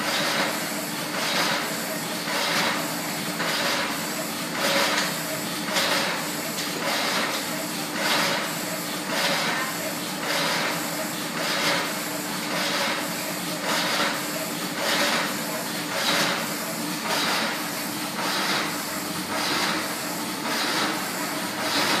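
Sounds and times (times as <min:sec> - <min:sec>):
machine hiss: 0:00.0 - 0:22.0.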